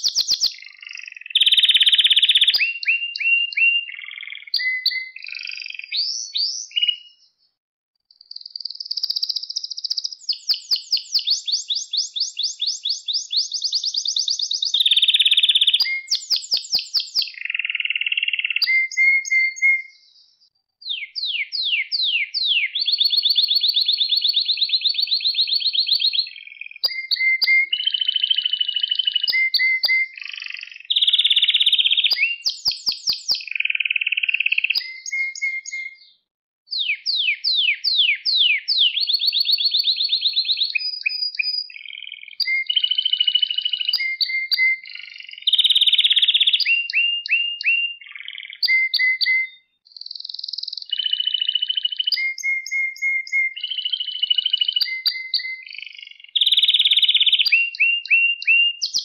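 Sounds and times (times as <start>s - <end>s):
canary singing trills: 0.0s - 7.4s, 8.2s - 59.0s.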